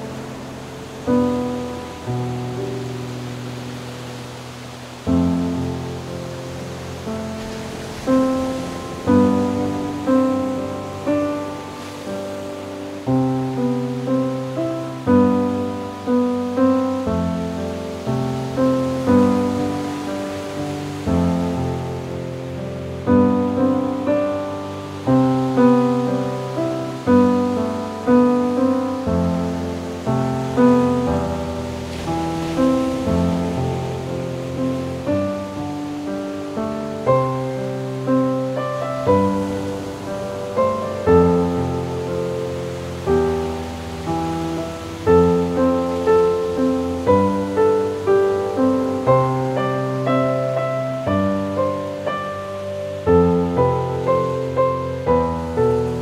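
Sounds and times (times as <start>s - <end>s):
gentle solo piano: 0.0s - 56.0s
ocean waves: 0.0s - 56.0s.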